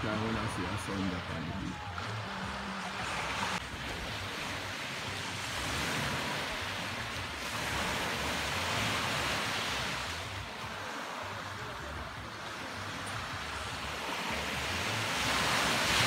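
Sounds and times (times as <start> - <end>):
small waves washing onto sand: 0.0 - 16.0.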